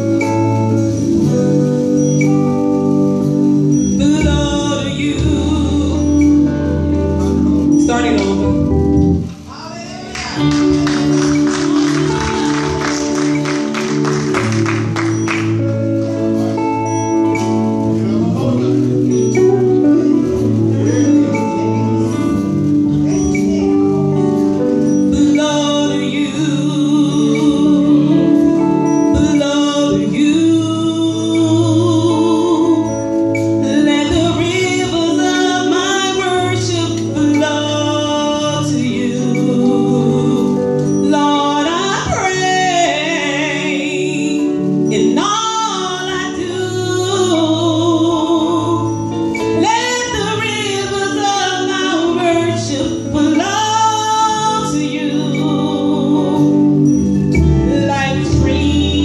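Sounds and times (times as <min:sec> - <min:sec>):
instrumental accompaniment: 0:00.0 - 0:59.0
woman singing with vibrato: 0:03.6 - 0:15.8, 0:18.5 - 0:59.0.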